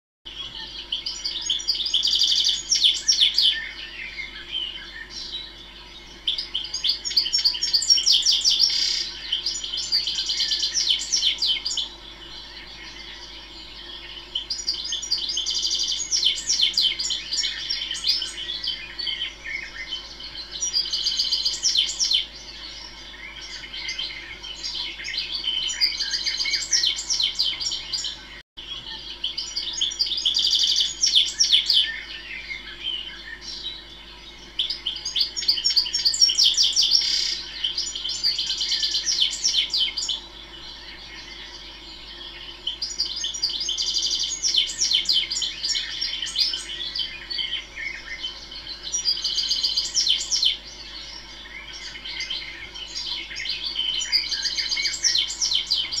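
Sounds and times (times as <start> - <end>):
goldfinch singing: 0.3 - 56.0.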